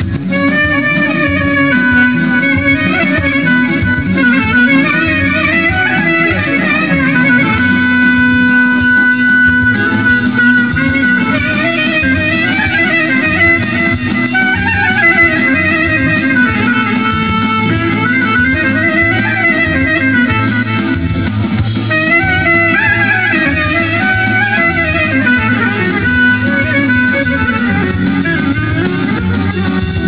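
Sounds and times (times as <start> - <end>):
bouzouki band playing dance music: 0.0 - 30.0.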